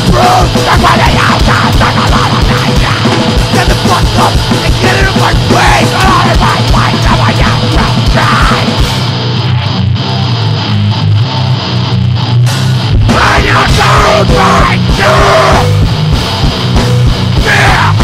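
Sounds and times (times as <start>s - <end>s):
distorted electric guitar: 0.0s - 18.0s
rapid drums: 0.0s - 18.0s.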